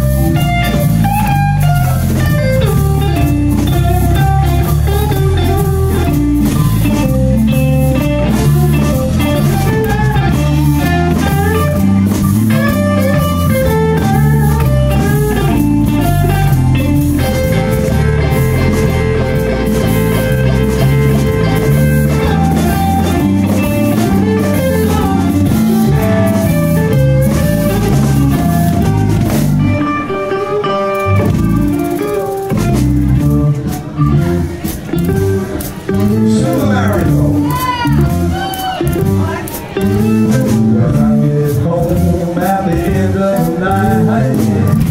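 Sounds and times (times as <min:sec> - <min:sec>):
bass guitar: 0:00.0 - 0:44.9
blues guitar: 0:00.0 - 0:44.9
drum kit: 0:00.0 - 0:44.9.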